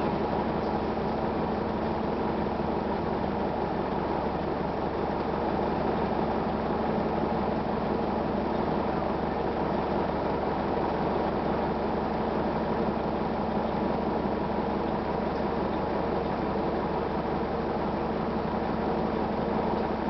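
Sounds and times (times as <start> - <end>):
diesel bus engine droning: 0.0 - 20.0.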